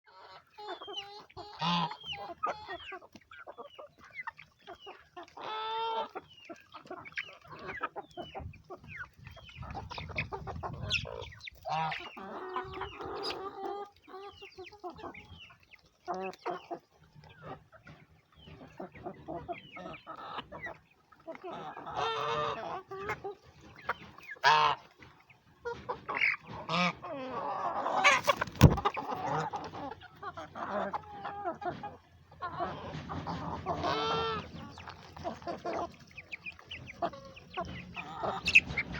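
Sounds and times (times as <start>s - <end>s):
chickens clucking: 0.1s - 38.9s.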